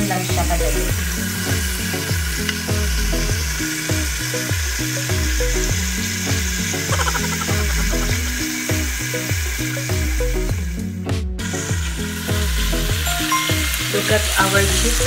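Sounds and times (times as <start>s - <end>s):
chicken sizzling in skillet: 0.0s - 10.8s, 11.4s - 15.0s
background music with steady beat: 0.0s - 15.0s.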